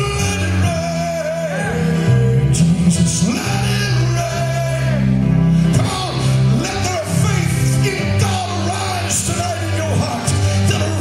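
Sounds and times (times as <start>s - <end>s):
man singing into a microphone: 0.0s - 5.1s, 5.7s - 11.0s
band playing low chords: 0.0s - 11.0s.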